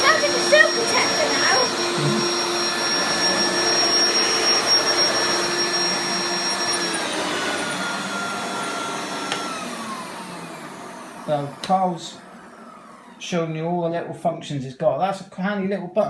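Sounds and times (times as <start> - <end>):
vacuum cleaner motor whining: 0.0 - 13.7.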